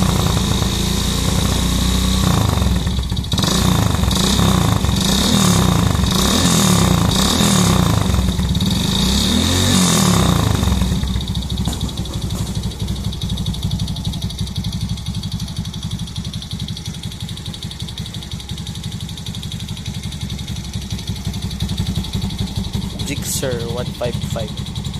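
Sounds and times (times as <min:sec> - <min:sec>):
motorcycle engine revving and idling: 0:00.0 - 0:24.9.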